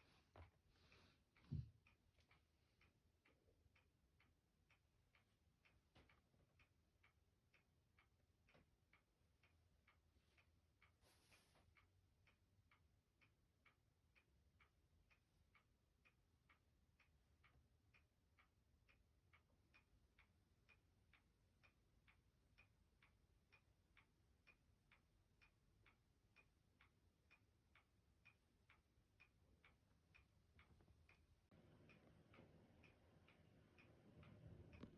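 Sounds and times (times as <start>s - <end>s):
clock ticking: 0.0s - 34.9s
low room hum: 0.0s - 34.9s.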